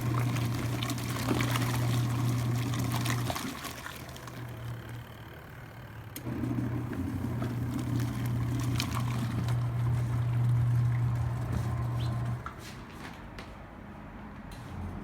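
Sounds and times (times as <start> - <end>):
washing machine motor humming: 0.0 - 12.5.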